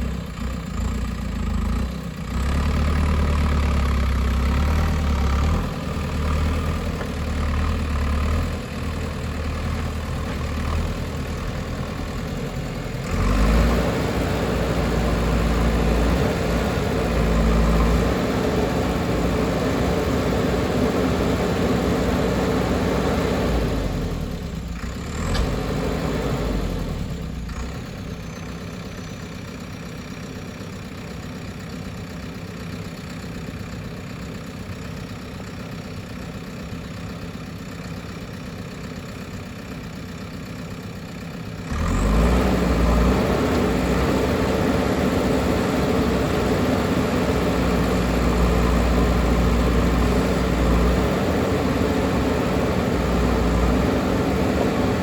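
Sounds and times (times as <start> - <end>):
backhoe loader diesel engine: 0.0 - 55.0.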